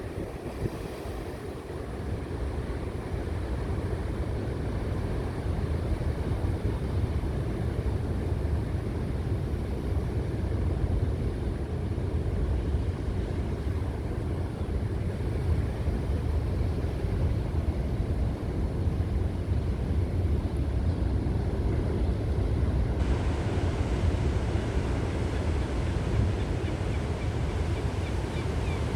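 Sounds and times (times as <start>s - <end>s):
sea surf rumble: 0.0s - 28.9s.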